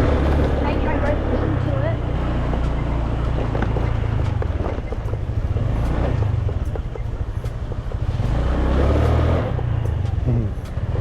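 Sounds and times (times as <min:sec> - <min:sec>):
motor scooter engine running: 0:00.0 - 0:11.0.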